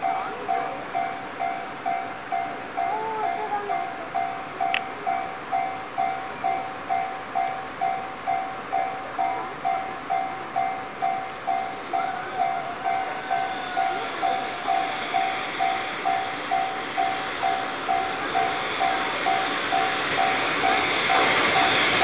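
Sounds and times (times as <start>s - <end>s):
train rail noise: 0.0s - 22.0s.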